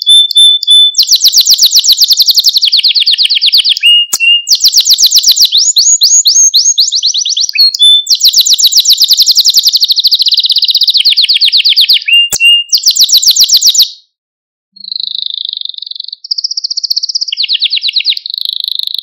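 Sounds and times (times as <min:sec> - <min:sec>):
canary trilling: 0:00.0 - 0:14.0, 0:14.8 - 0:19.0.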